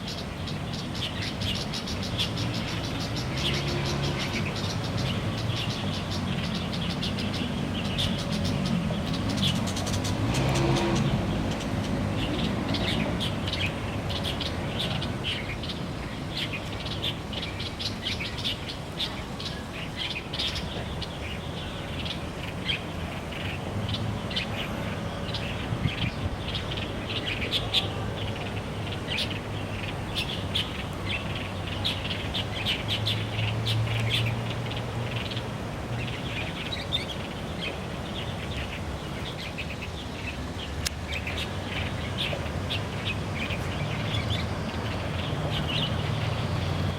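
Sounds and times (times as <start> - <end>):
bulbuls chirping and singing: 0.0 - 46.9.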